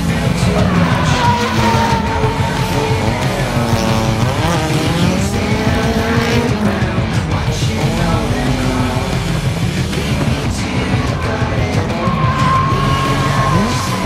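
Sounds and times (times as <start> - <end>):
car engine revving hard: 0.0 - 14.0
tyres squealing: 0.0 - 14.0.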